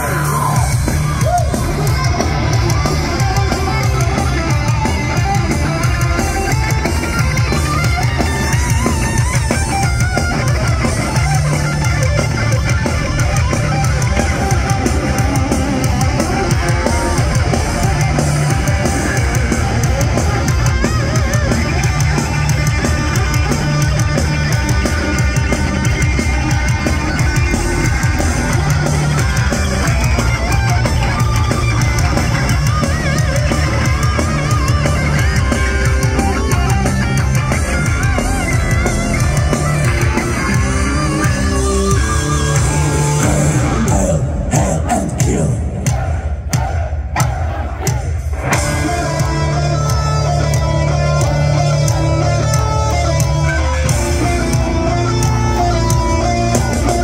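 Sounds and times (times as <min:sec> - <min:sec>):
drum kit: 0:00.0 - 0:57.0
loud electric guitars: 0:00.0 - 0:57.0.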